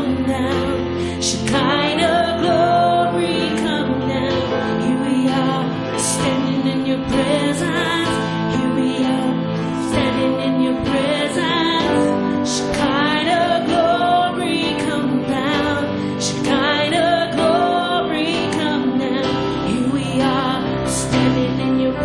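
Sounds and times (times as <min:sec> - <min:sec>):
person singing with vibrato: 0:00.0 - 0:22.0.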